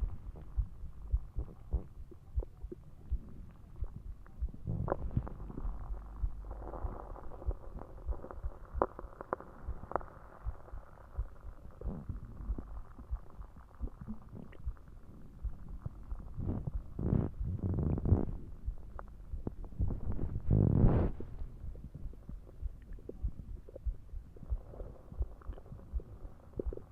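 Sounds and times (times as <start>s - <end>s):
stomach growling and gurgling: 0.0s - 26.9s.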